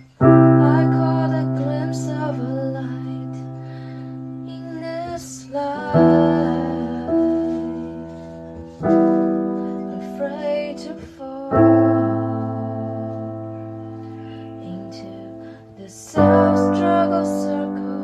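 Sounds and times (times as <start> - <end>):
piano chords ringing: 0.0 - 18.0.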